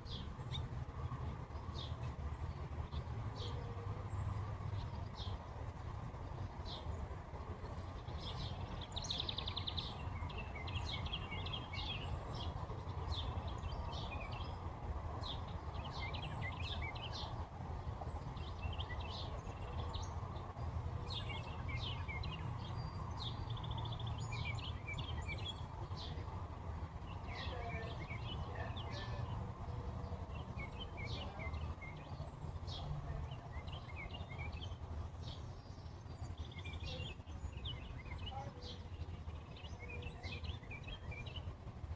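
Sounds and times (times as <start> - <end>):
low outdoor rumble: 0.0 - 41.9
wild birds chirping: 0.0 - 41.9.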